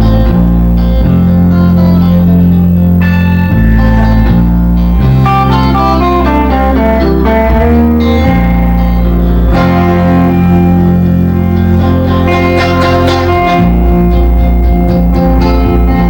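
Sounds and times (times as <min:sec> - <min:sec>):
band playing guitar music: 0:00.0 - 0:16.0
picked guitar melody: 0:00.0 - 0:16.0.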